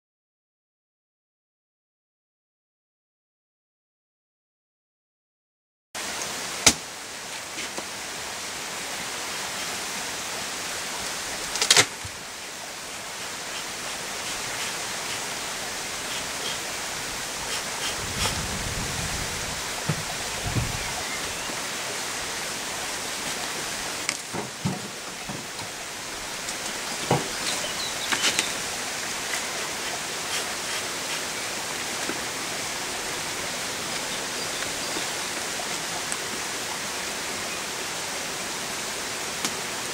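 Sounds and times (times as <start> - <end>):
steady hiss: 6.0 - 39.9.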